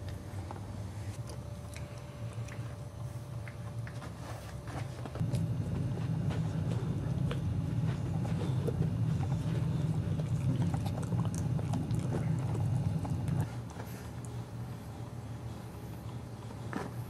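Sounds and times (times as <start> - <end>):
steady low hum: 0.0 - 17.0
dog gnawing a chew: 0.1 - 17.0.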